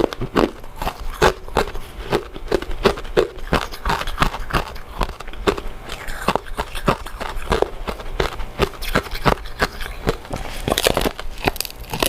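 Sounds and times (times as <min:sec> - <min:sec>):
wet chewing mouth clicks: 0:00.0 - 0:12.0.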